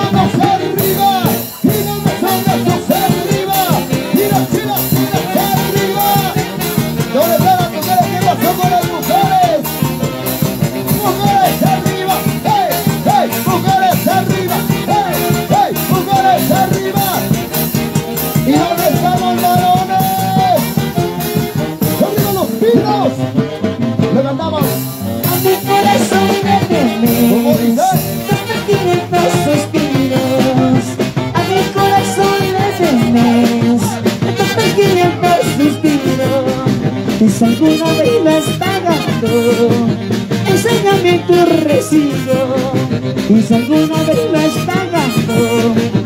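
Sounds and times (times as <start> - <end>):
band playing dance tune: 0.0 - 46.0.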